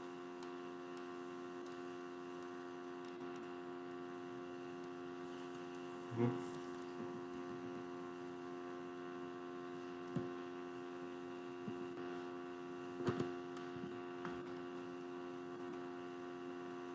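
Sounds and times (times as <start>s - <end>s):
electrical mains hum: 0.0s - 16.9s.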